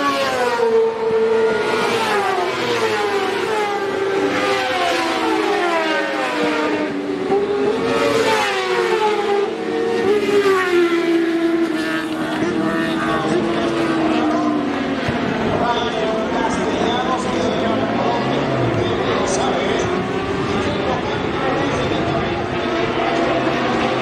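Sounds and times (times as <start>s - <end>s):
motorcycles racing at high revs: 0.0s - 24.0s.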